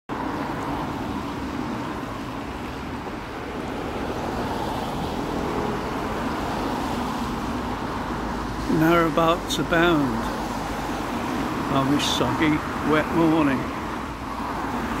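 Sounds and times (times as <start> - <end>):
road traffic drone: 0.1 - 15.0.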